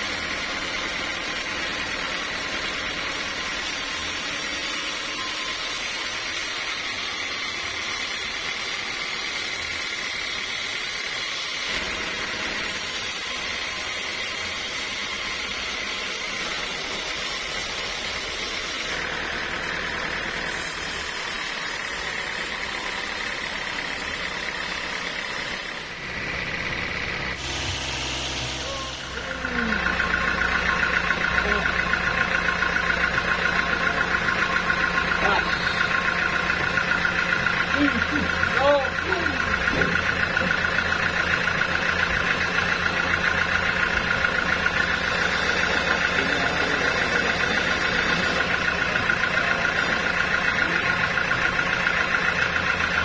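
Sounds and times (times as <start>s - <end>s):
high whine of saw blade: 0.0s - 39.9s, 41.0s - 53.0s
band saw cutting through log: 0.0s - 53.0s.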